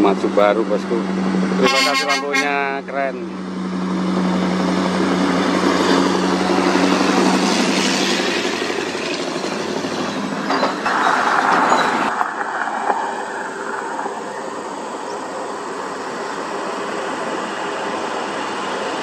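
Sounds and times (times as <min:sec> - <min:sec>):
truck diesel engine drone: 0:00.0 - 0:12.2, 0:13.1 - 0:19.0
rumble of tyres and trailer: 0:00.0 - 0:19.0.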